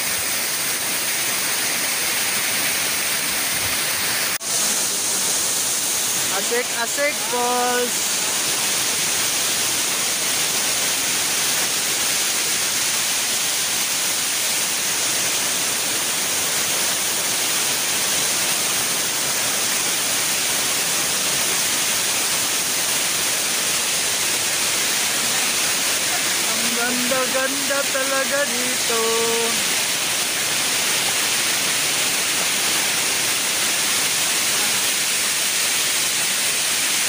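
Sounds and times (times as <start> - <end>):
waterfall splashing onto rock: 0.0 - 37.0.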